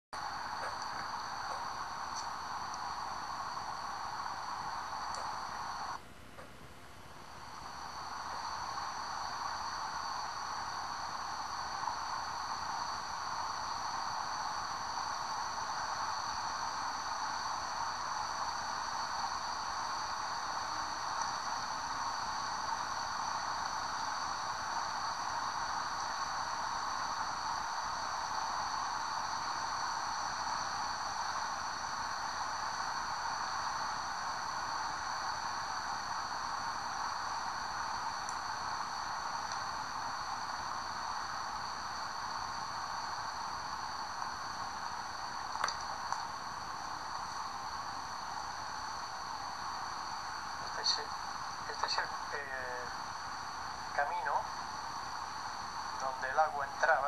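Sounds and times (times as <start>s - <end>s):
thin high whine: 0.1s - 57.0s.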